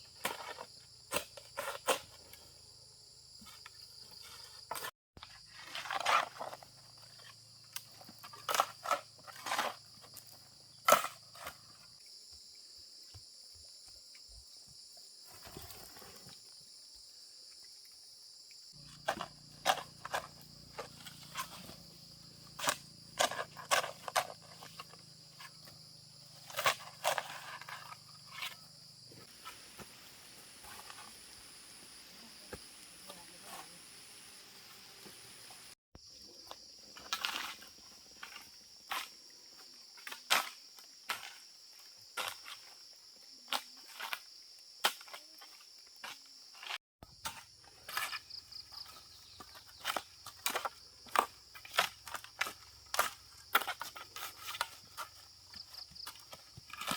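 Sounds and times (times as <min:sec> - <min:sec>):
insect drone: 0:00.0 - 0:56.9.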